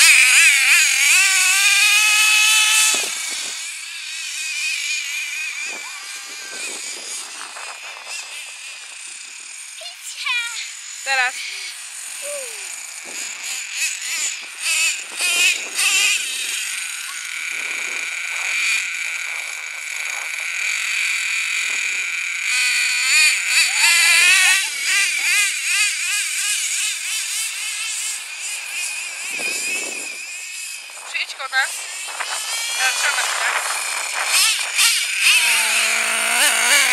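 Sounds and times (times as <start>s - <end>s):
nitro rc engine revving: 0.0s - 36.9s.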